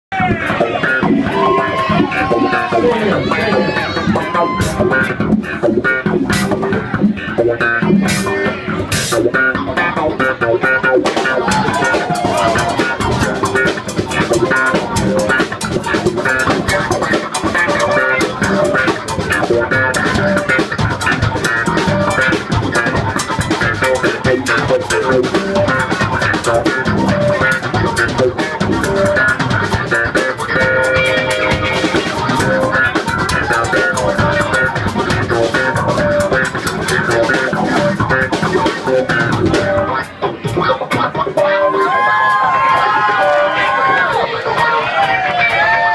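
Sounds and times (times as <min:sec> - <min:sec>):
drum kit: 0:00.1 - 0:45.9
electric keyboard: 0:00.1 - 0:45.9
slapped electric bass: 0:00.1 - 0:45.9.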